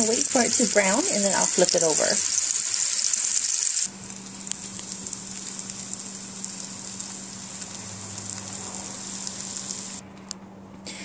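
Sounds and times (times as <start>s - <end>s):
patty sizzling in oil: 0.0s - 10.0s.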